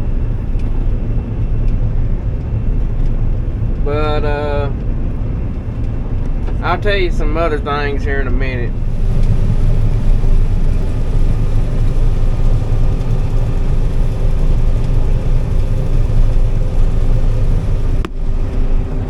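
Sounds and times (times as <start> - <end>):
combine harvester drone: 0.0 - 19.0
faint steady hum: 0.0 - 19.0.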